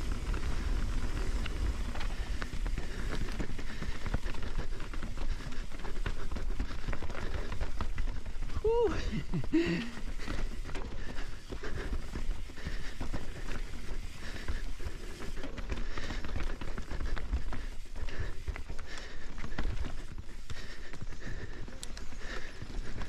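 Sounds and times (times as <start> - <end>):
mountain bike rattling over rocks: 0.0 - 23.0.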